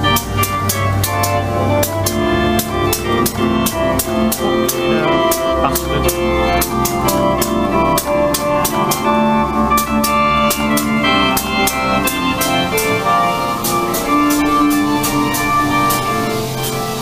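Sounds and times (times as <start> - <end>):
organ-like chords: 0.0 - 17.0
steady drum beat: 0.0 - 17.0.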